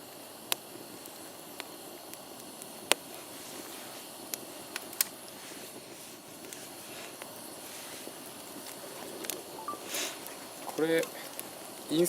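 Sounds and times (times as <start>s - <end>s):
wood fire hissing and popping: 0.0s - 12.0s.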